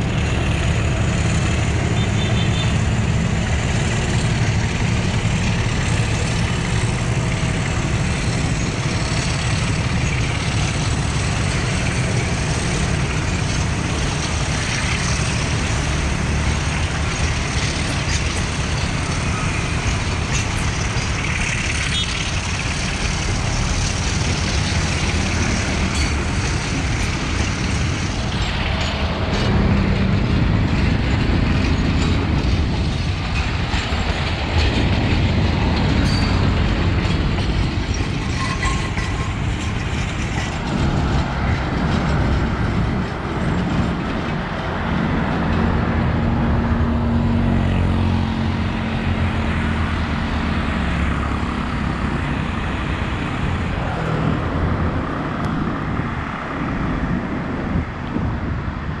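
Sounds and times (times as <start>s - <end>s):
coach wheels rolling on rails: 0.0s - 59.0s
diesel locomotive engine rumble: 0.0s - 59.0s.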